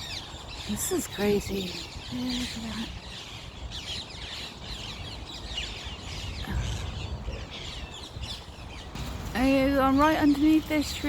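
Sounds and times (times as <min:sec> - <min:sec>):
parakeets calling: 0:00.0 - 0:11.0.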